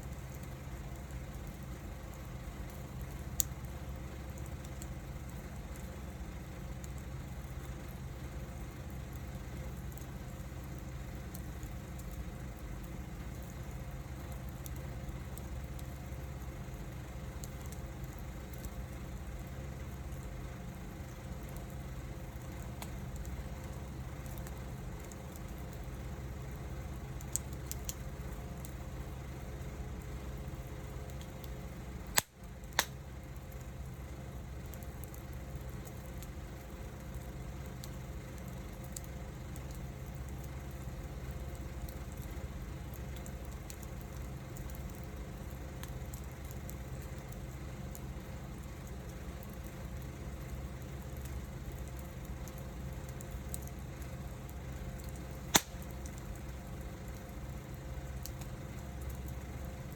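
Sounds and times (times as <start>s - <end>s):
wood fire burning: 0.0s - 59.9s
crackling pops from wood: 0.1s - 8.2s, 8.8s - 20.1s, 21.2s - 26.0s, 27.0s - 28.8s, 30.8s - 33.8s, 34.5s - 59.9s.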